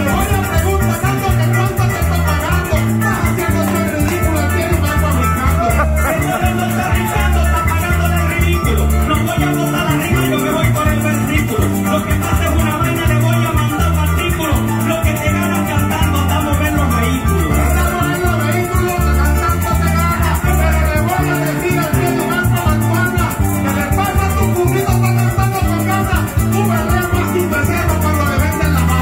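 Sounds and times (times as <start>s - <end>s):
bass line: 0.0s - 29.0s
maracas shaking: 0.0s - 29.0s.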